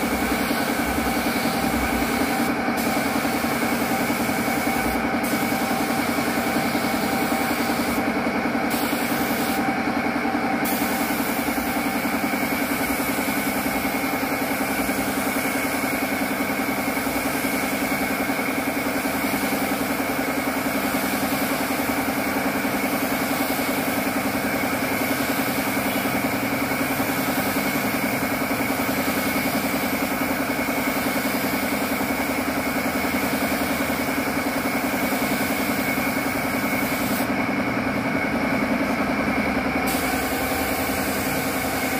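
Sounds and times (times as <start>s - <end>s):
spray gun hissing: 0.0s - 9.9s, 10.5s - 37.4s, 39.8s - 41.9s
air compressor running: 0.0s - 41.9s.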